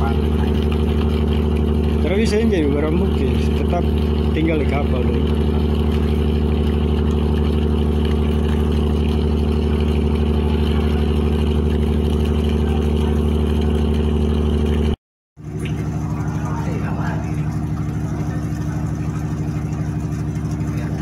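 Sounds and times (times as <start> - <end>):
ship engine drone: 0.0 - 21.0.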